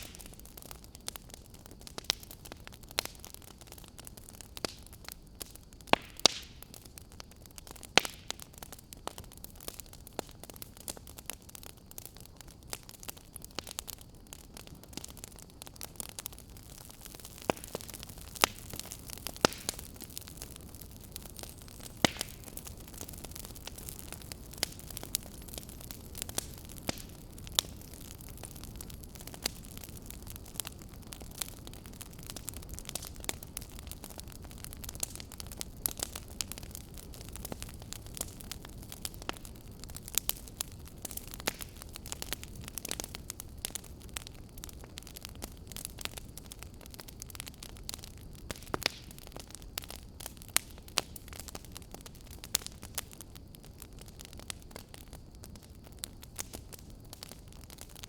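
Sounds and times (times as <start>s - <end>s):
soft hiss of flames: 0.0s - 58.0s
wood fire crackling and popping: 0.0s - 58.0s.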